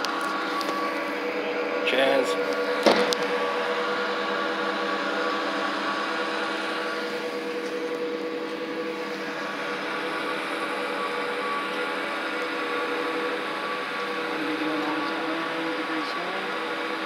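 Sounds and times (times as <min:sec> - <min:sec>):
crane engine drone: 0:00.0 - 0:17.0
faint constant whine: 0:00.0 - 0:17.0.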